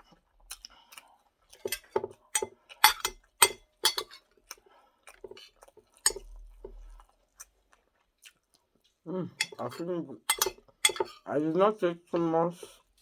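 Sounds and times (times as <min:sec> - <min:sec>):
chewing and mouth smacking: 0:00.0 - 0:11.3.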